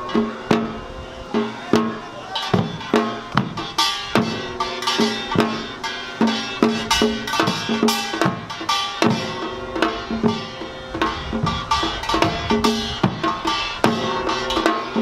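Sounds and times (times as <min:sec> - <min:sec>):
hourglass drums and barrel drum: 0:00.0 - 0:15.0
small gong clanging: 0:00.0 - 0:15.0.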